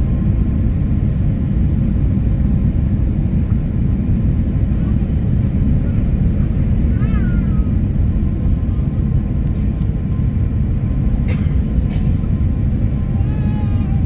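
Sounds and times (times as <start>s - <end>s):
airliner cabin rumble: 0.0s - 14.0s
faint hum: 0.0s - 14.0s.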